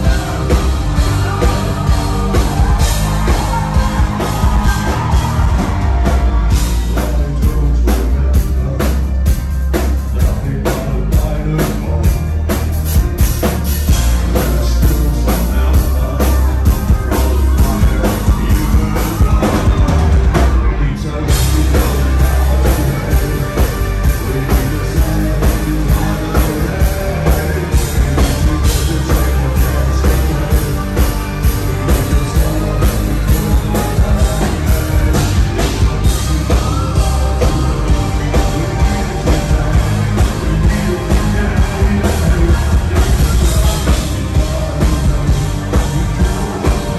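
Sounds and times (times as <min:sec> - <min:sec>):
heavy bass: 0:00.0 - 0:46.9
live rock band playing: 0:00.0 - 0:46.9
person singing: 0:00.0 - 0:46.9
pounding drum kit: 0:00.0 - 0:46.9.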